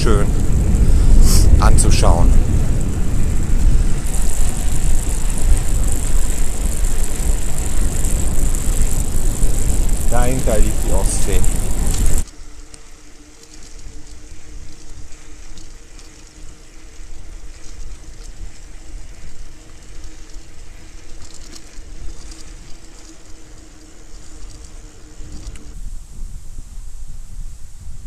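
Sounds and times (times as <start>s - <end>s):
wind buffeting microphone: 0.0s - 12.3s, 13.5s - 28.0s
bicycle tyres rumbling on path: 0.0s - 28.0s
steady low hum: 0.0s - 28.0s.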